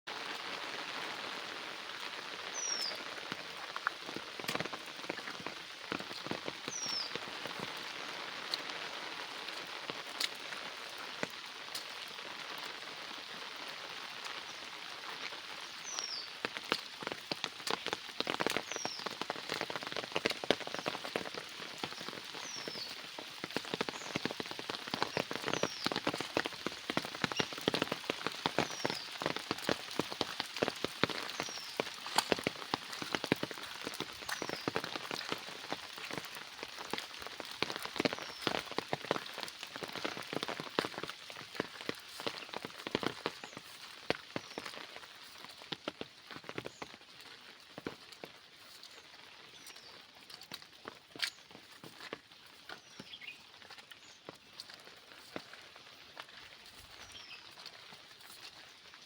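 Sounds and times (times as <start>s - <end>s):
rain falling: 0.1s - 59.0s
raindrops tapping: 0.1s - 59.0s.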